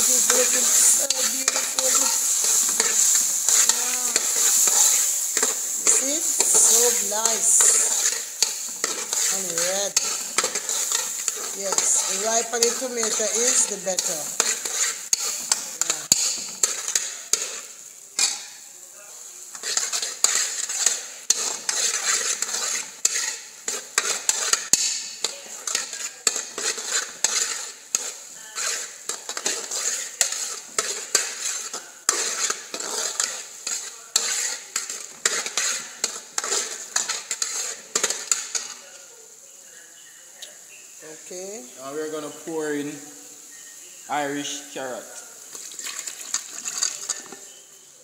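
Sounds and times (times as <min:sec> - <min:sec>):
metal spoon scraping pot: 0:00.0 - 0:18.5, 0:19.5 - 0:38.8, 0:45.6 - 0:47.4
vegetables sizzling in oil: 0:00.0 - 0:48.0.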